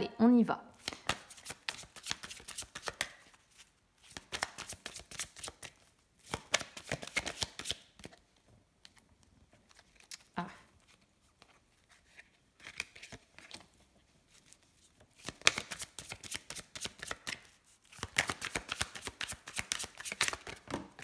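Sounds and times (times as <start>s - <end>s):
cards being shuffled: 0.8s - 8.2s, 8.8s - 21.0s.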